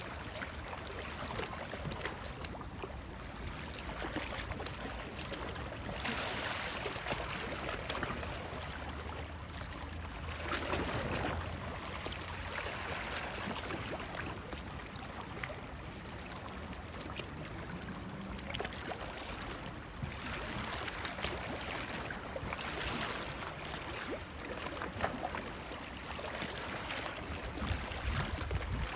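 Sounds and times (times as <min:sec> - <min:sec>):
sea water washing and splashing: 0:00.0 - 0:28.9.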